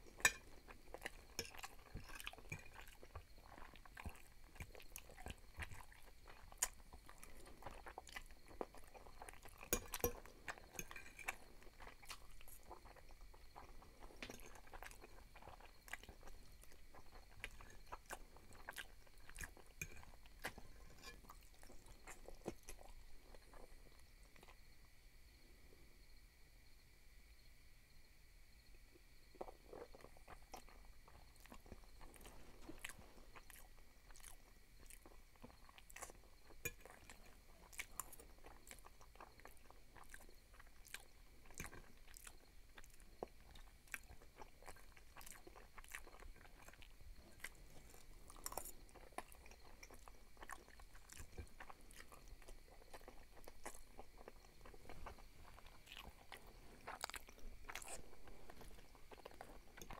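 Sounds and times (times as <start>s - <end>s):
wet chewing: 0.0s - 24.6s, 29.3s - 59.9s.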